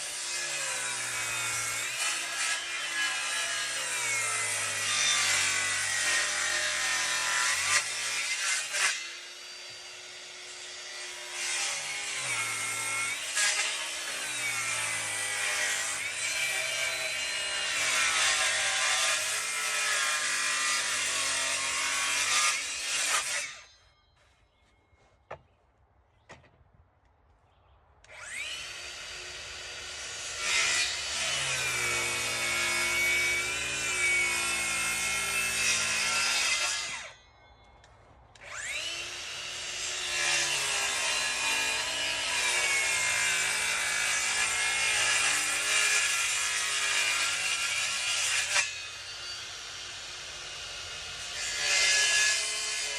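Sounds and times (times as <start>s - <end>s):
power saw cutting wood: 0.0s - 23.8s, 28.1s - 37.2s, 38.4s - 52.9s.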